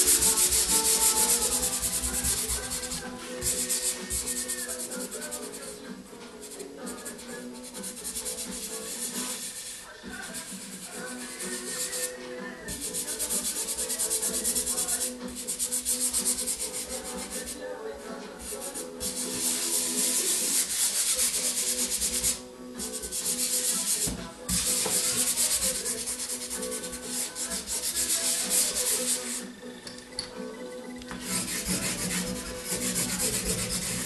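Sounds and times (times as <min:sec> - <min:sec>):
hand scrubbing pastel on paper: 0:00.0 - 0:05.7, 0:06.4 - 0:17.6, 0:18.4 - 0:29.4, 0:31.2 - 0:34.0.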